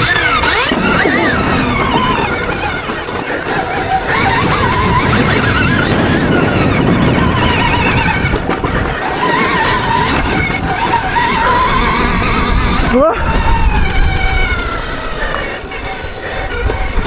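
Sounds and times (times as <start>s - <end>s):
electric motorbike motor whining: 0.0s - 17.0s
steady rushing noise: 0.0s - 17.0s.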